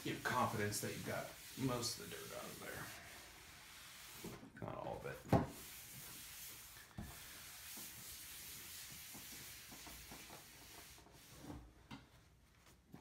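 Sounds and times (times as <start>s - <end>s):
paper towel rubbing on table: 0.0s - 11.6s.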